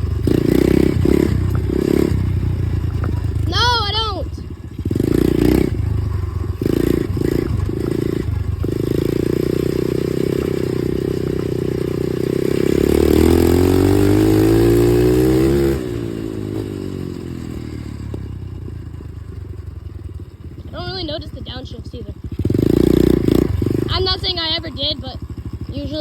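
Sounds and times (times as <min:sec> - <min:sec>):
dirt bike engine accelerating: 0:00.0 - 0:26.0.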